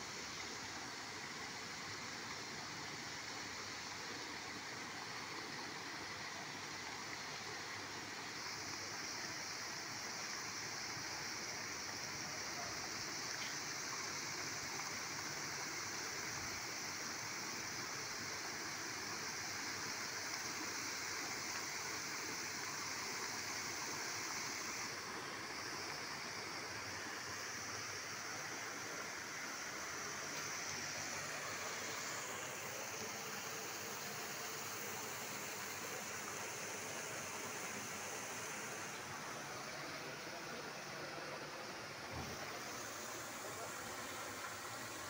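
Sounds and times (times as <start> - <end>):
fountain water splashing: 0.0 - 45.0.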